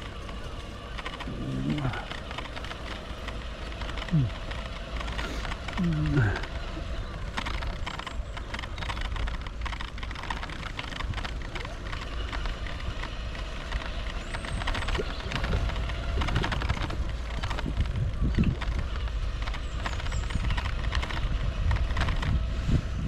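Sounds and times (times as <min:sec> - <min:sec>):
bicycle tyre rumble: 0:00.0 - 0:23.0
bike rattles and clicks: 0:00.0 - 0:23.0
wind noise: 0:00.0 - 0:23.0.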